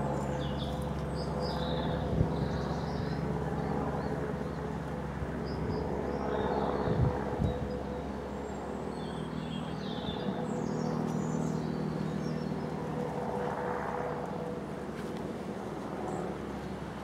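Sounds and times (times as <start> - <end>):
airplane engine and propeller droning: 0.0 - 17.0.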